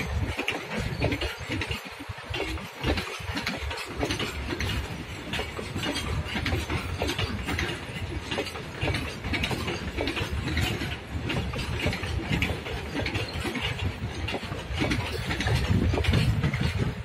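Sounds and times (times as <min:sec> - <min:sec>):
metallic clicking and clanking: 0:00.0 - 0:17.0
train wheels rumbling on rail: 0:00.0 - 0:17.0.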